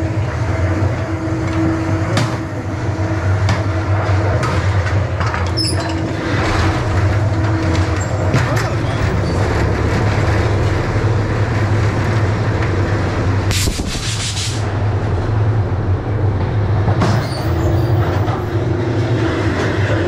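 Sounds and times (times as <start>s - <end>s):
ride car rumbling on track: 0.0s - 20.0s.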